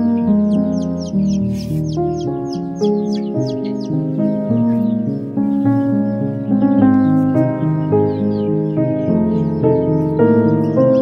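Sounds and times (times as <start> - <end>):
background music chords: 0.0 - 11.0.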